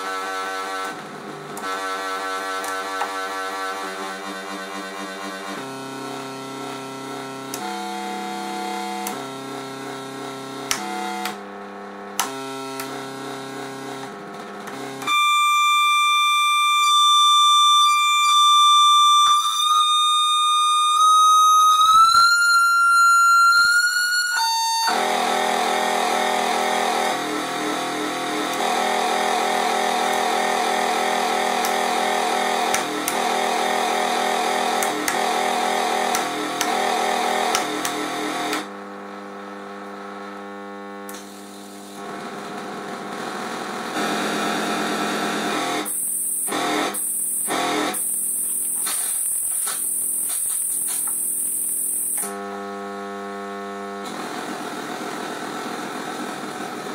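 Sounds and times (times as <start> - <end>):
electronic buzzing tones: 0.0 - 55.3.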